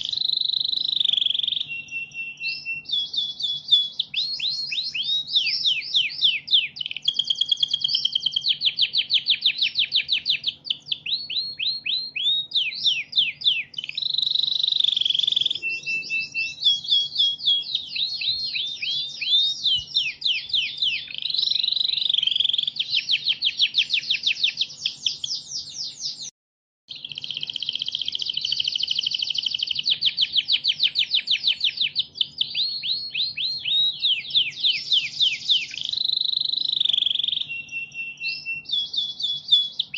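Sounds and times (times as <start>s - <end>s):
canary singing trills: 0.0s - 26.3s, 26.9s - 39.9s.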